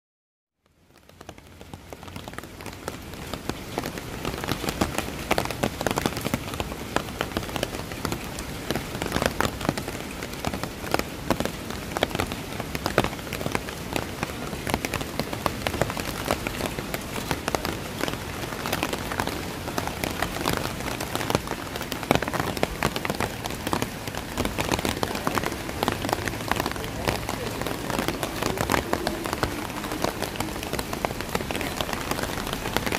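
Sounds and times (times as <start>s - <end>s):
close raindrop impacts: 0.6s - 32.9s
steady rain hiss: 0.6s - 32.9s.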